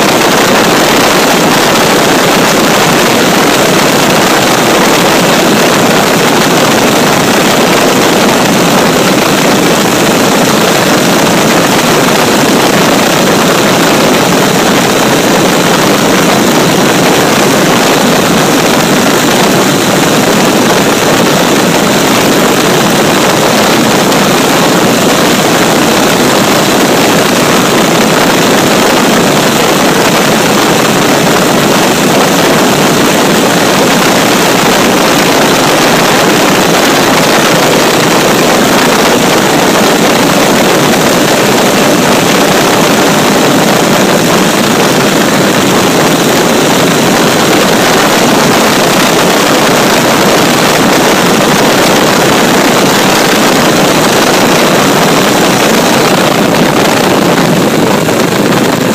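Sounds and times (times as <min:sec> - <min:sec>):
motorcycle engine running loud: 0:00.0 - 0:58.9
wind rushing over microphone: 0:00.0 - 0:58.9.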